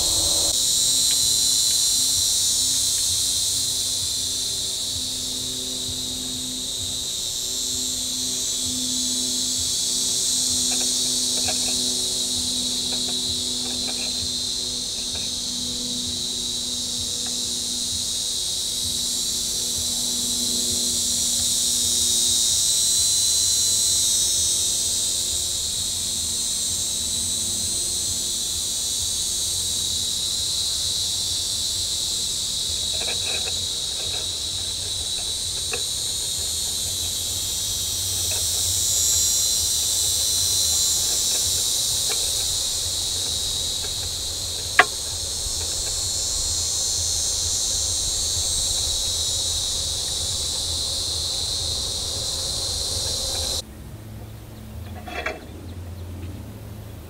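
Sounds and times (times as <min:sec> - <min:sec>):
insect chorus buzzing: 0:00.0 - 0:57.0.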